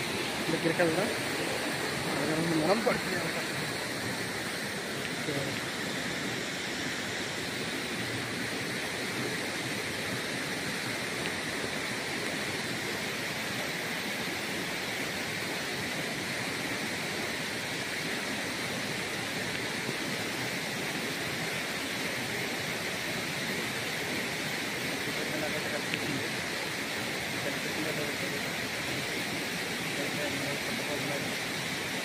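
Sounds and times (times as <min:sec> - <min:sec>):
rain falling on water: 0:00.0 - 0:32.0
waterfall rushing: 0:00.0 - 0:32.0.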